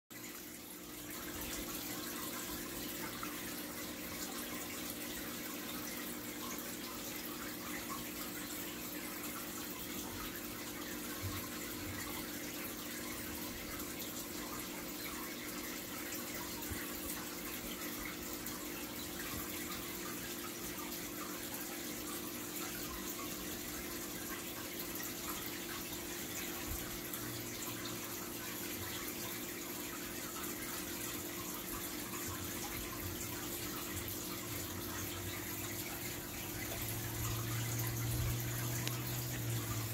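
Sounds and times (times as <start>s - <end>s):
pump humming: 0.1s - 39.9s
water trickling: 0.1s - 39.9s.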